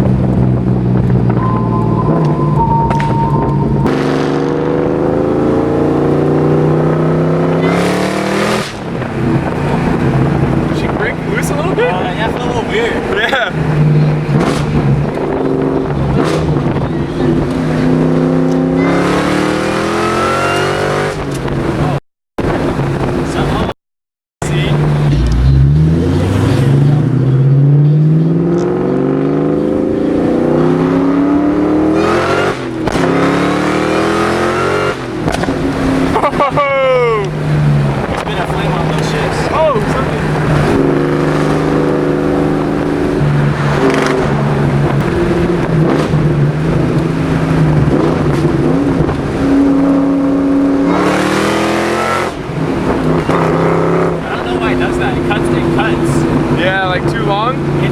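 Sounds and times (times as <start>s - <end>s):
car engine accelerating: 0.0s - 23.7s, 24.4s - 57.9s.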